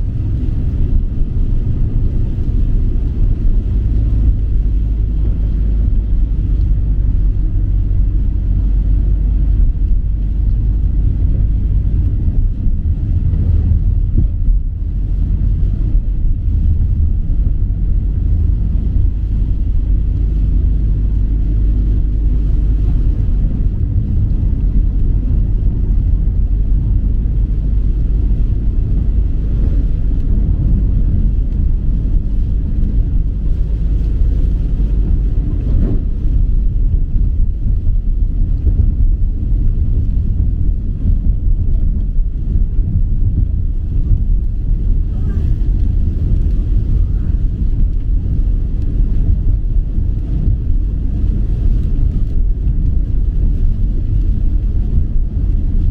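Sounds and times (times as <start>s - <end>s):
loud low rumble: 0.0s - 55.9s.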